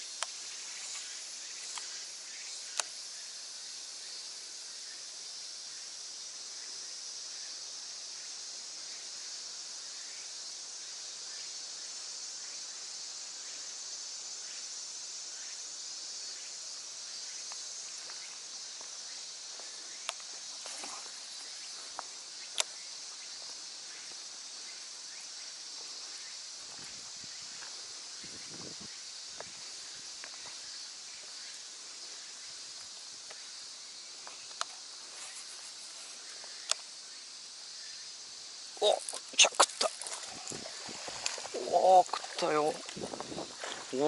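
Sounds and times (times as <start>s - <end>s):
insects chorus: 0.0s - 44.0s.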